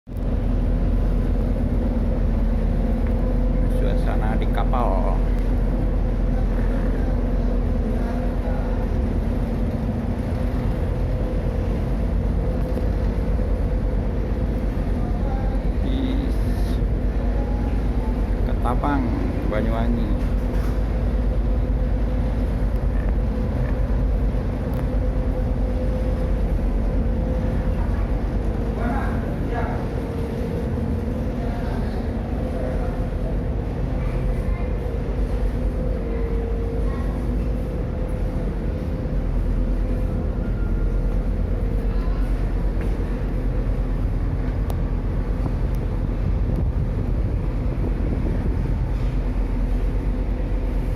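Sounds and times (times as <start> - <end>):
faint hum: 0.1 - 50.9
ferry engines droning: 0.1 - 50.9.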